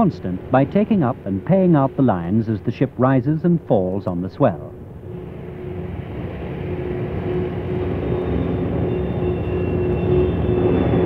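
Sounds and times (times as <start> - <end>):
faint hum: 0.0 - 11.0
machinery rumble: 0.0 - 11.0.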